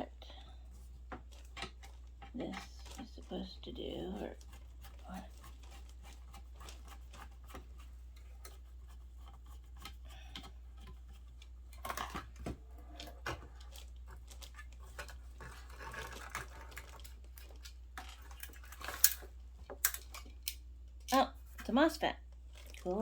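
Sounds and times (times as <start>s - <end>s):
small parts and tools clicking: 0.4s - 21.7s.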